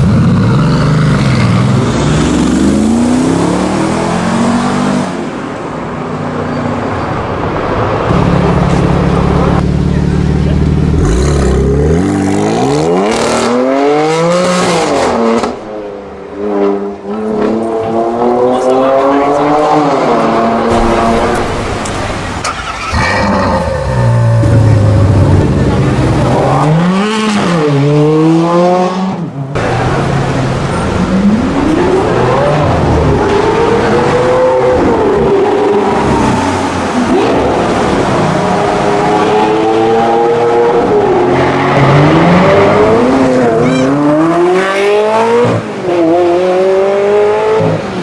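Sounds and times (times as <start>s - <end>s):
supercar engines revving: 7.5s - 48.0s.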